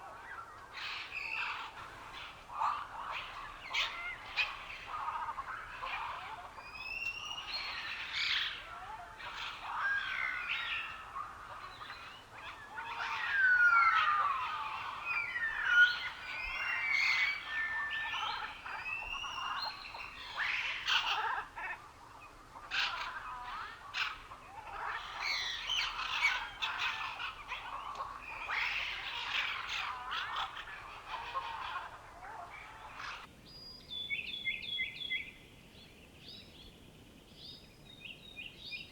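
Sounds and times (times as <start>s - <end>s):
chorus of birds singing: 0.0s - 38.9s.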